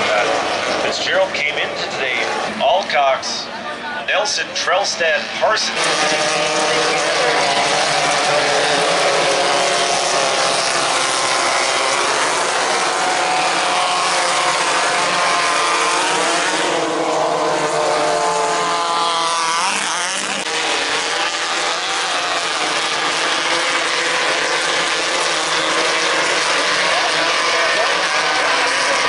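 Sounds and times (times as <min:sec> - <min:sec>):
engine revving: 0:00.0 - 0:29.0
race buggy engines running: 0:00.0 - 0:29.0.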